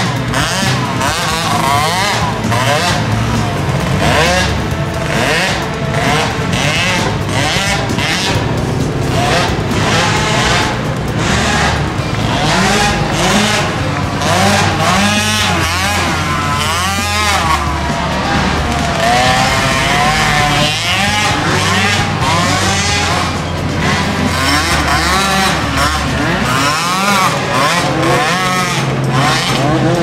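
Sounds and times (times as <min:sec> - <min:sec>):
mini atv engines revving: 0:00.0 - 0:30.0.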